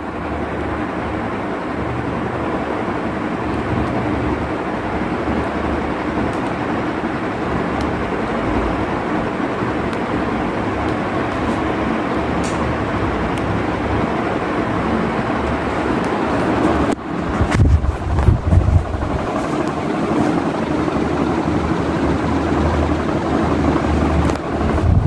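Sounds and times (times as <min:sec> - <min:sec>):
air gusts buffeting microphone: 0:00.0 - 0:25.0
ceiling fan rushing air: 0:00.0 - 0:25.0.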